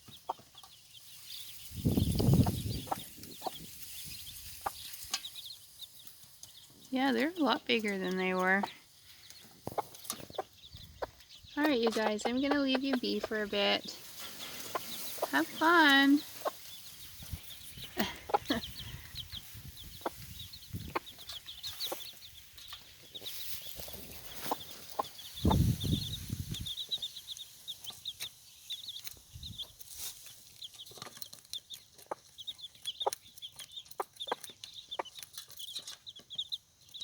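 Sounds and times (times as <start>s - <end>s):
hen clucking: 0.0s - 29.8s, 30.6s - 36.6s
chicks peeping: 0.0s - 37.0s.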